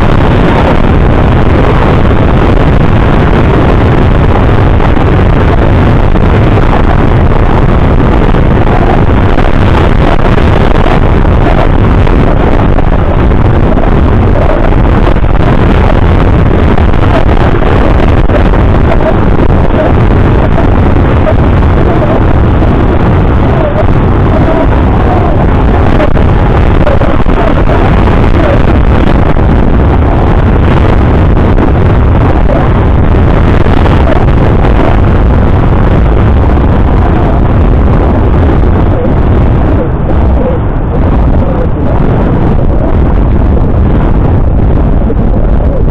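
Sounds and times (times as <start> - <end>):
wind buffeting the microphone: 0.0 - 45.9.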